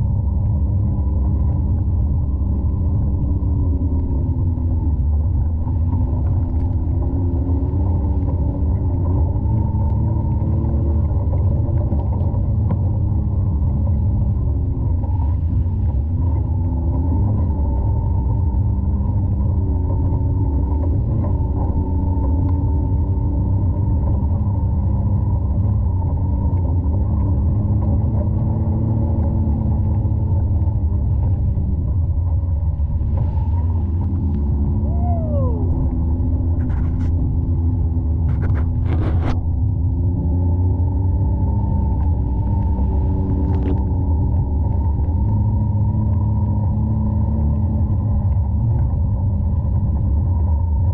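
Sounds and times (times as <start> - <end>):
muffled utility vehicle engine: 0.0 - 50.9.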